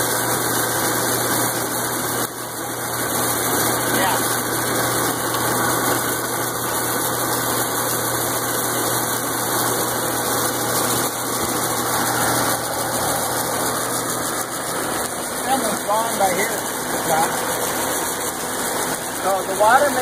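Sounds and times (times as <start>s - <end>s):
berry destemmer churning: 0.0s - 20.0s
low motor hum: 0.1s - 20.0s.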